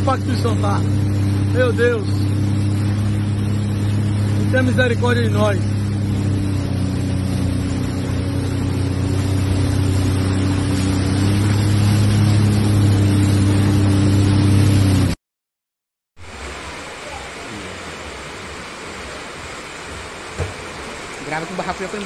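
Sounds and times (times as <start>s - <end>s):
jet ski engine humming: 0.0s - 15.2s, 16.2s - 22.0s
water rushing past hull: 0.0s - 15.2s, 16.2s - 22.0s.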